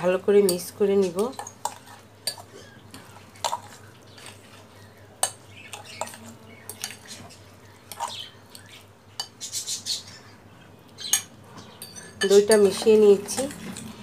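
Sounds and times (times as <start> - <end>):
spoon stirring in glass bowl: 0.4 - 9.6, 11.0 - 14.0.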